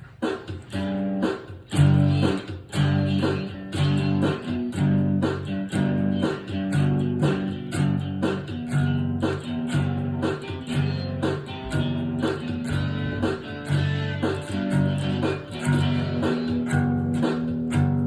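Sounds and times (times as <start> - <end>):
strummed guitar chords: 0.2 - 18.0
low bass line: 1.8 - 18.0.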